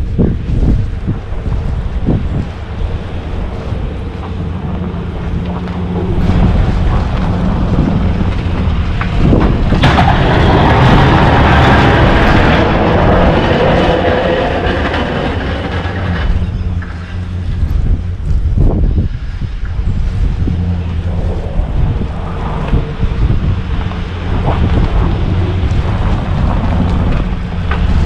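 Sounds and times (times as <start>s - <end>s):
loud rushing noise: 0.0s - 28.0s
vehicle engine running: 0.0s - 28.0s.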